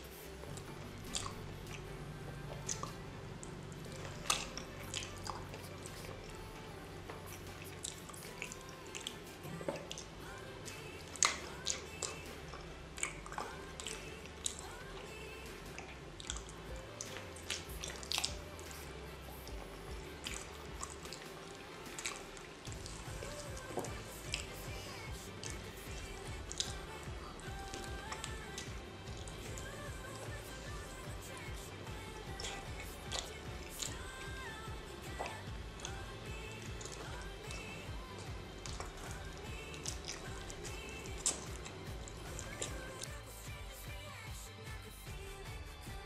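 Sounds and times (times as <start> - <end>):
sharp wet clicks and drips: 0.4 - 43.8
wet squishing of raw fish: 2.6 - 6.4, 7.2 - 43.5.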